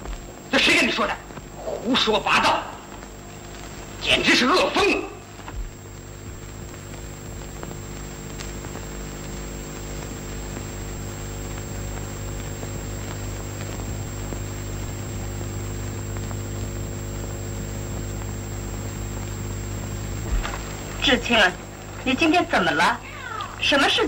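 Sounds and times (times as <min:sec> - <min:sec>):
film soundtrack hiss and hum: 0:00.0 - 0:24.0.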